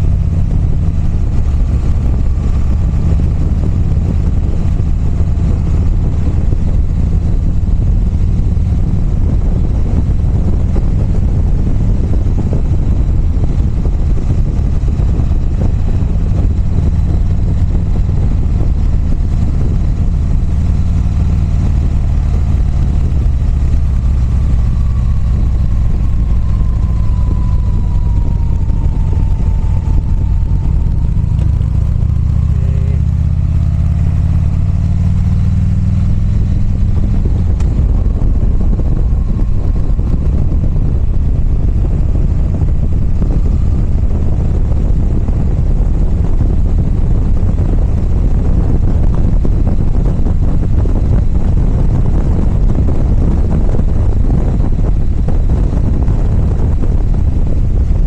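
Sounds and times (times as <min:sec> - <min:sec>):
constant rushing noise: 0:00.0 - 0:58.0
motorcycle engine running: 0:00.0 - 0:58.0.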